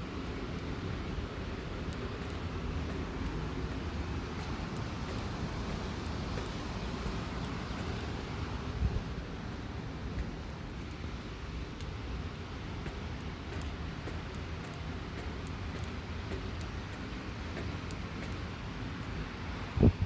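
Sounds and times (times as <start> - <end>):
wind rumbling on microphone: 0.0 - 14.0, 15.8 - 20.0.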